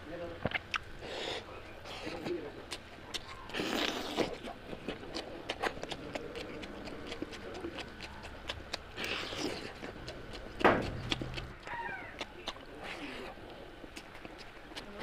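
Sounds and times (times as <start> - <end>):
person chewing food: 0.4 - 15.0.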